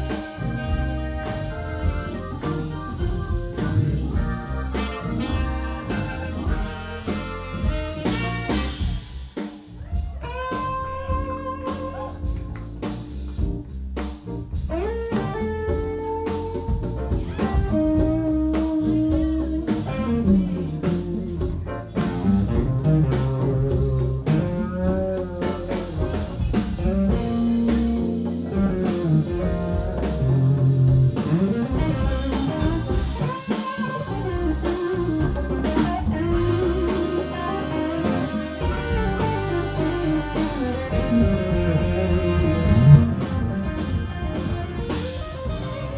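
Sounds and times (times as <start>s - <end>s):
saxophone lead line: 0.0s - 9.4s, 10.2s - 13.6s, 17.3s - 45.9s
drums: 0.0s - 45.9s
electric bass: 0.0s - 45.9s
electric guitar: 0.0s - 45.9s
keyboards: 0.0s - 45.9s.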